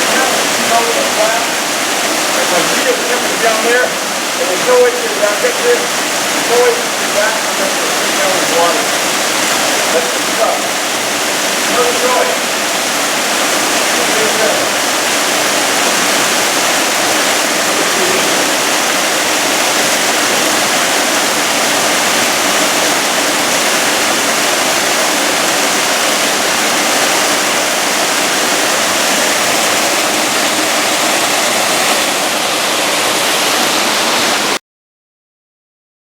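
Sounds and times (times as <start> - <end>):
waterfall rushing: 0.0 - 34.6.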